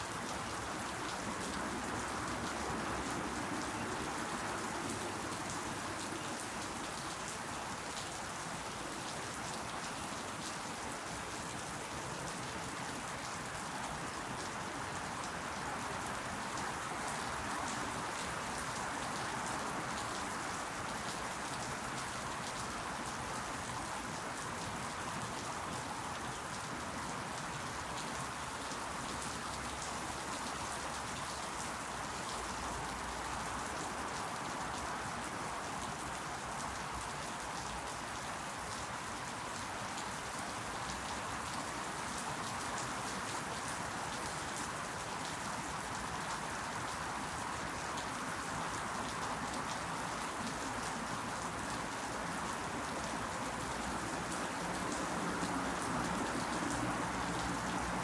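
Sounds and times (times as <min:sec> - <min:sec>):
rain pattering on leaves: 0:00.0 - 0:58.0.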